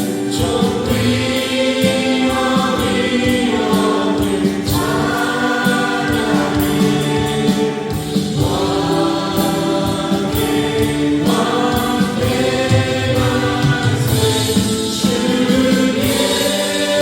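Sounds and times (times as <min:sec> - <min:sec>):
choir singing sustained chords: 0:00.0 - 0:17.0
light steady beat: 0:00.0 - 0:17.0.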